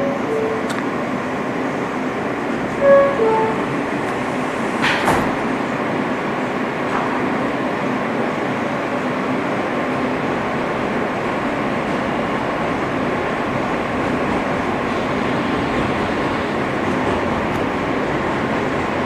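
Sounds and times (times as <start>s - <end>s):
subway wheels rumbling on rails: 0.0s - 19.0s.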